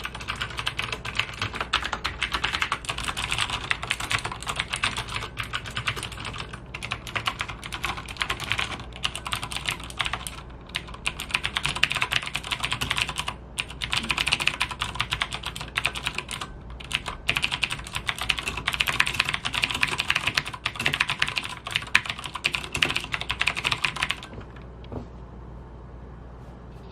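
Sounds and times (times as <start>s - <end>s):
fast typing on clicky keyboard: 0.0s - 24.6s.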